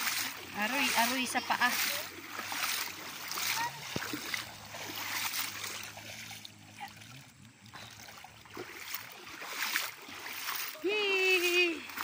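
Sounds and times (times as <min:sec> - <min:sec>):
stream flowing: 0:00.0 - 0:12.0
water splashing around wading person: 0:00.0 - 0:12.0.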